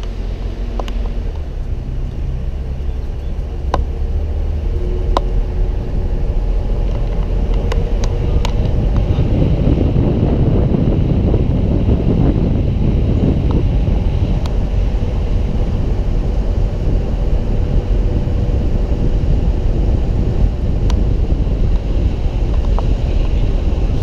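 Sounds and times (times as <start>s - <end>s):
road and engine rumble: 0.0s - 24.0s.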